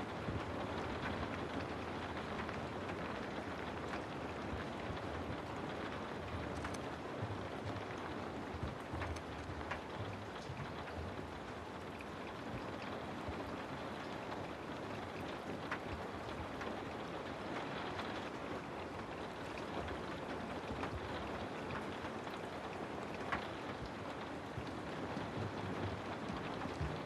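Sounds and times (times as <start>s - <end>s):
steady rain hiss: 0.0s - 27.0s
single raindrops ticking: 2.1s - 27.0s.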